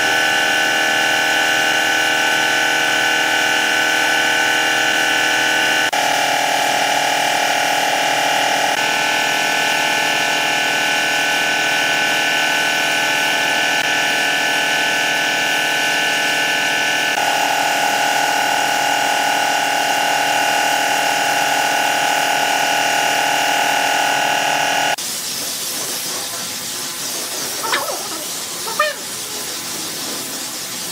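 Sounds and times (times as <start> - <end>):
electric power tool running: 0.0 - 25.0.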